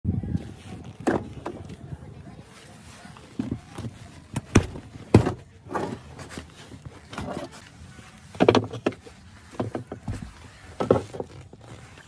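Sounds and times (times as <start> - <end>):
rustling from handling: 0.4 - 12.0.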